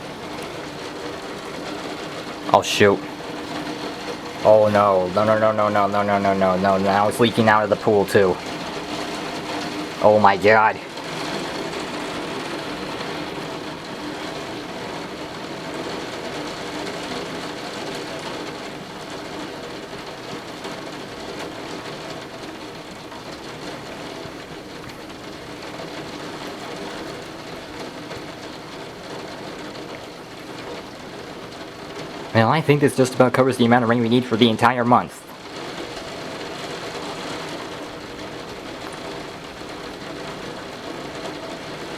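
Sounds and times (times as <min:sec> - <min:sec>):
torrential rain pouring: 0:00.0 - 0:41.9
water overflowing gutters: 0:00.0 - 0:41.9.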